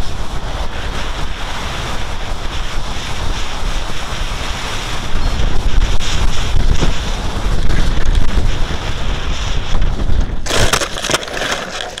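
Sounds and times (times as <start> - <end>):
crackling burst: 0.0 - 12.0
wind buffeting microphone: 0.0 - 12.0.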